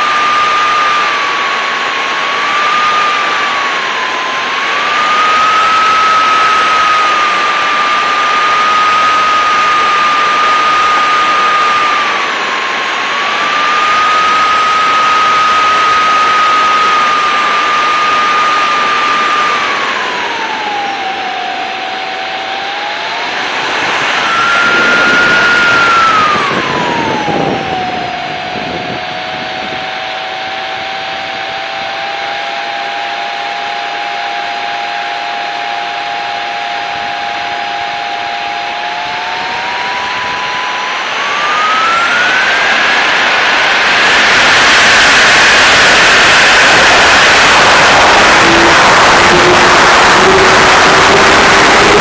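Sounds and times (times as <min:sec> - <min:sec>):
model jet engine whining: 0:00.0 - 0:52.0.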